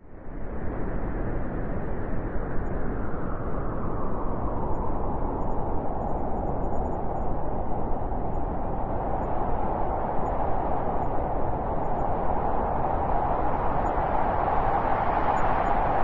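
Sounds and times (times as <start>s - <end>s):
blizzard wind howling: 0.0s - 16.0s.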